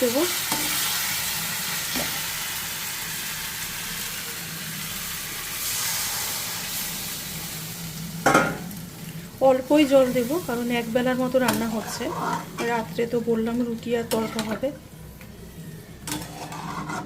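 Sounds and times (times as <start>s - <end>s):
water sizzling in hot pan: 0.0s - 14.6s.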